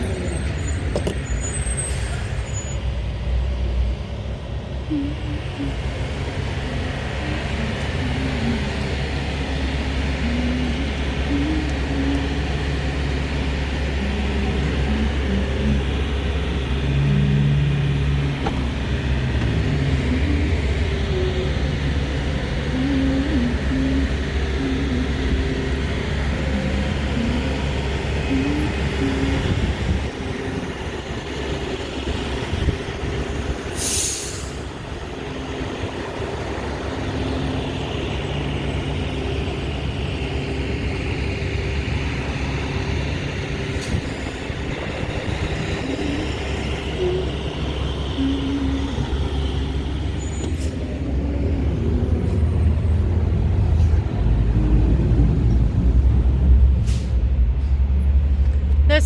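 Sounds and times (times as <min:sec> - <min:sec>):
heavy vehicle rumble: 0:00.0 - 0:59.0.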